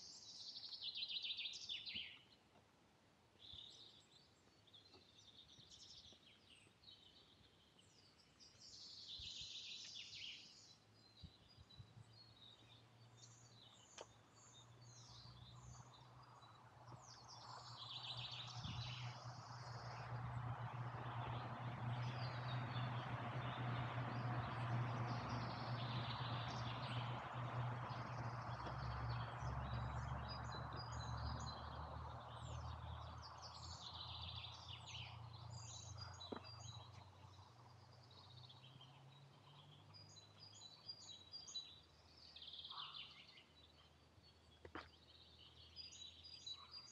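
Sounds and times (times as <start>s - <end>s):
songbirds singing and chirping: 0.0s - 2.7s, 3.3s - 46.9s.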